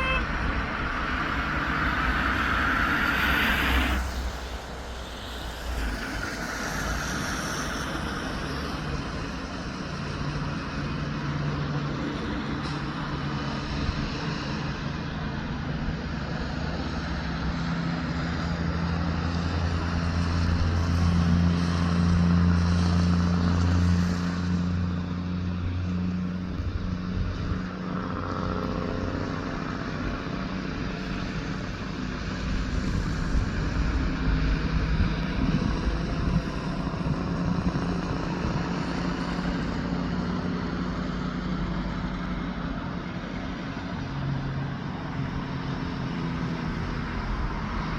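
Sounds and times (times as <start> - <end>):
heavy truck engine drone: 0.0 - 47.9.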